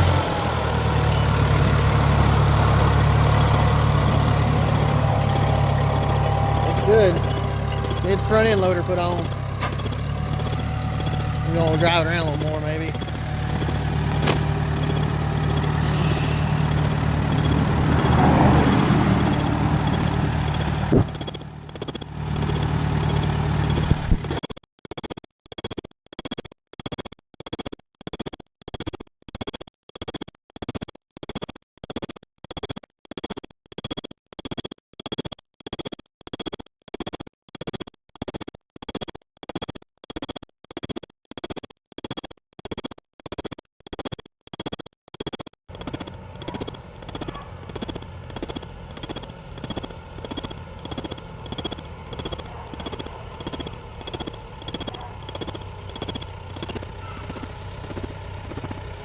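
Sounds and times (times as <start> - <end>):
tractor engine running: 0.0 - 25.6, 34.6 - 59.0.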